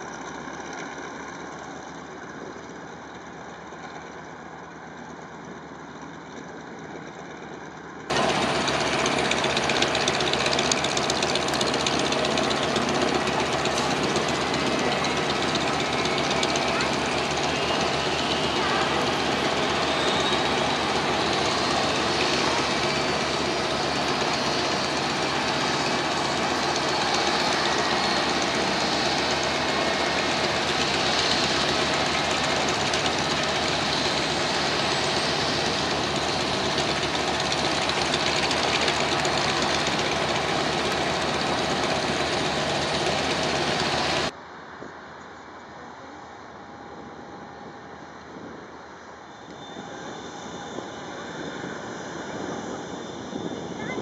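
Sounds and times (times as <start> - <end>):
propeller aircraft engines idling: 0.0 - 44.3, 49.5 - 54.0.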